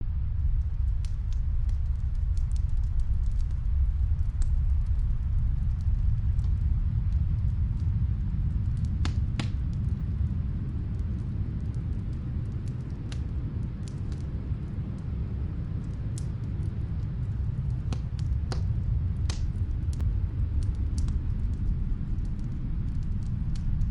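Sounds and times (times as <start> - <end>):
muffled wood fire crackling: 0.0 - 23.9
storm wind rumbling: 0.0 - 23.9.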